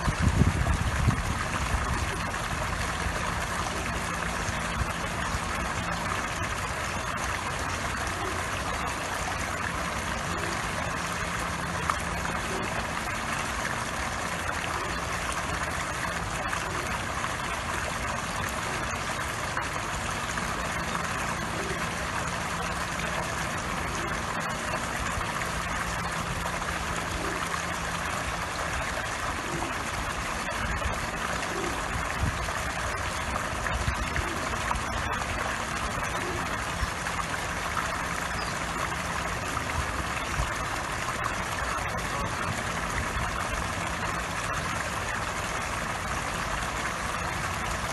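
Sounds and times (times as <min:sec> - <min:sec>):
fountain water splashing: 0:00.0 - 0:47.9
low steady hum: 0:00.0 - 0:47.9.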